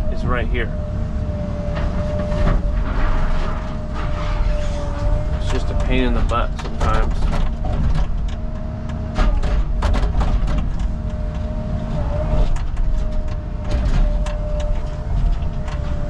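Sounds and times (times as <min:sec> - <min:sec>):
mini excavator whining: 0:00.0 - 0:16.0.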